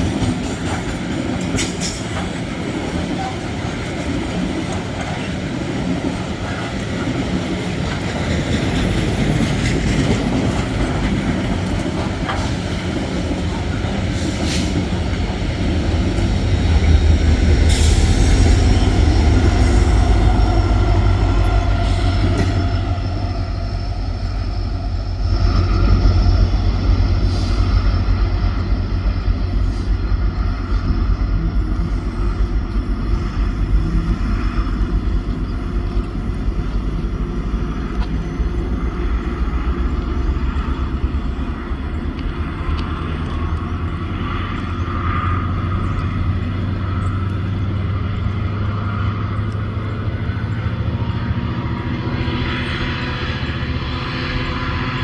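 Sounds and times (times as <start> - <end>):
freight train wheels rumbling: 0.0 - 55.0
train wheels clanking: 0.0 - 55.0.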